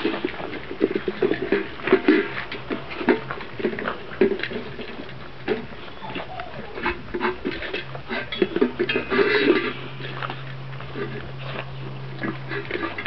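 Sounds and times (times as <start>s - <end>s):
kibble clinking against metal bowls: 0.0s - 13.0s
puppies chewing kibble: 0.0s - 13.0s.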